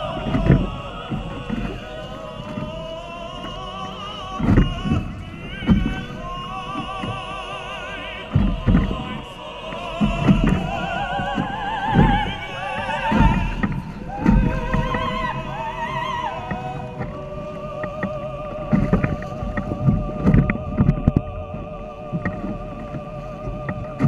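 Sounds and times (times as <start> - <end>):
low thumps: 0.0 - 24.0
person singing with vibrato: 0.0 - 24.0.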